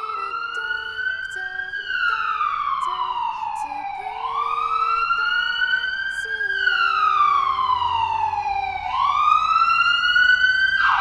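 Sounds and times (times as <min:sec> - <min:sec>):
wailing siren: 0:00.0 - 0:11.0.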